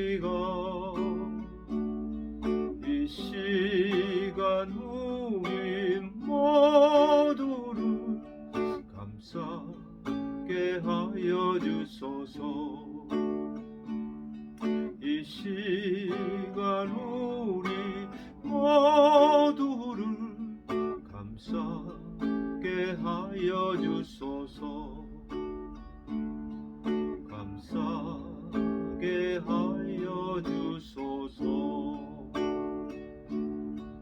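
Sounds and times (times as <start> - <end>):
person singing with vibrato: 0.0 - 13.7, 14.7 - 25.9, 26.8 - 33.4
acoustic guitar picking: 0.0 - 34.0.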